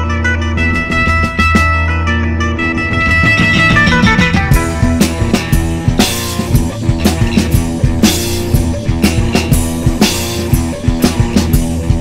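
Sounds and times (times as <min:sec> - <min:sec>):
bass and guitar: 0:00.0 - 0:12.0
drum-kit beat: 0:00.1 - 0:12.0.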